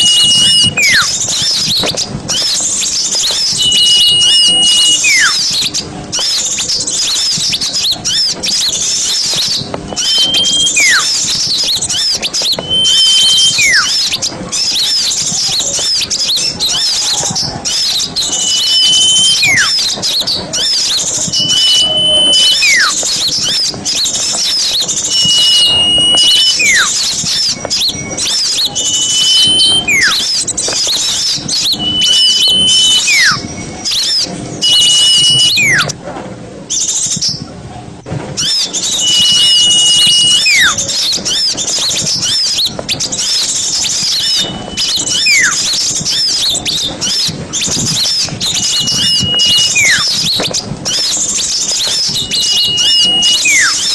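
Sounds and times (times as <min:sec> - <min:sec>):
whistle with falling note: 0:00.0 - 0:02.6, 0:03.2 - 0:05.6, 0:09.2 - 0:14.2, 0:16.7 - 0:20.0, 0:20.6 - 0:36.0, 0:38.4 - 0:53.9
small birds chattering: 0:00.0 - 0:36.0, 0:38.4 - 0:53.9.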